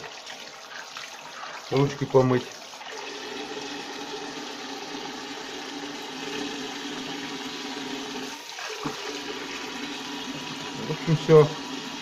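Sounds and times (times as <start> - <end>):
tap water running into washbasin: 0.0 - 12.0.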